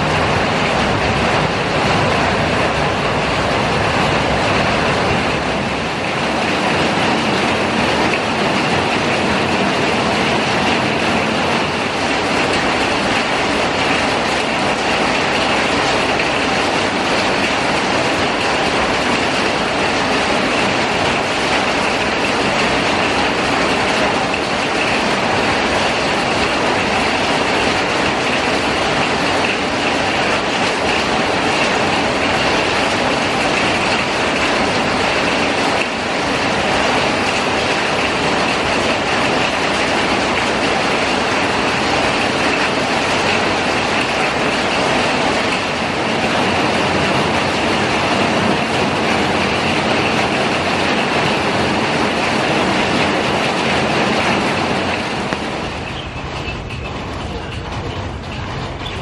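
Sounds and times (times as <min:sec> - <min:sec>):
rain on foliage and paving: 0:00.0 - 0:59.0.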